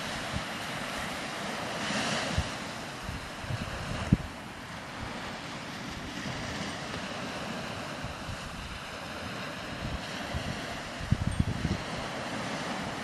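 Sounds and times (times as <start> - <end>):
small waves breaking on beach: 0.0 - 13.0
wind buffeting microphone: 0.0 - 13.0.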